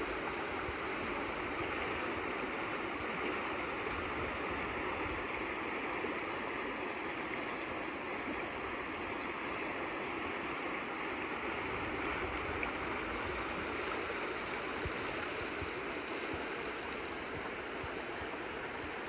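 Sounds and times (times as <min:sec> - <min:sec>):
stream rushing over riffles: 0:00.0 - 0:19.0.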